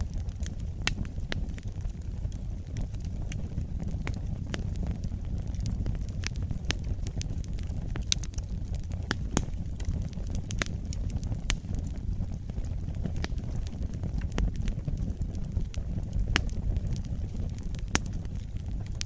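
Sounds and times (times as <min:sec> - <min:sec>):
fire rumbling: 0:00.0 - 0:19.0
logs crackling and popping: 0:00.0 - 0:19.0.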